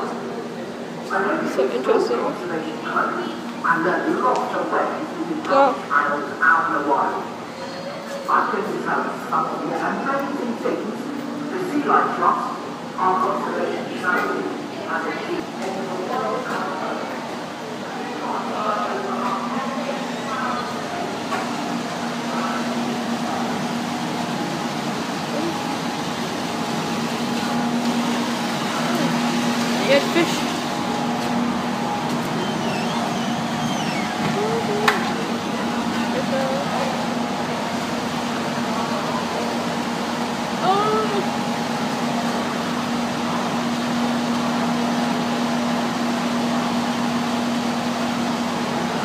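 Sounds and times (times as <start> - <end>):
indistinct voices: 0.0 - 41.8
mechanical hum: 0.0 - 49.0.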